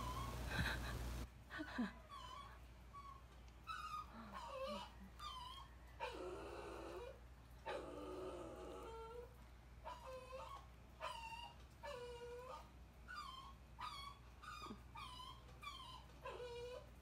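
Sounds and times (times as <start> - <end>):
puppies whimpering and yipping: 0.0 - 0.5, 1.8 - 17.0.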